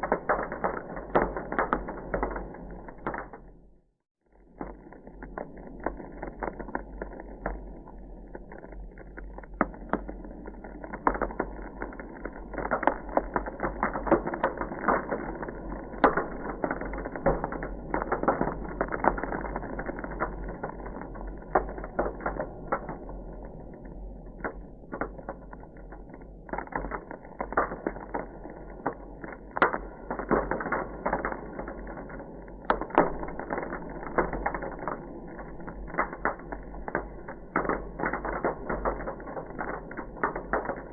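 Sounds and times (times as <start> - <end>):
ice crackling and popping: 0.0 - 3.7, 4.3 - 40.9.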